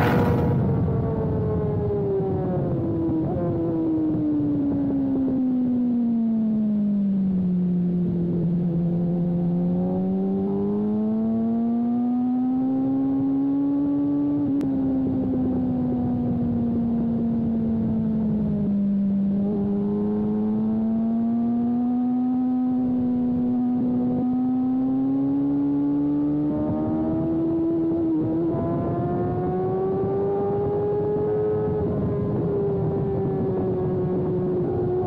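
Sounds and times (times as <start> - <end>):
motorcycle engine revving: 0.0 - 1.6, 8.4 - 35.0.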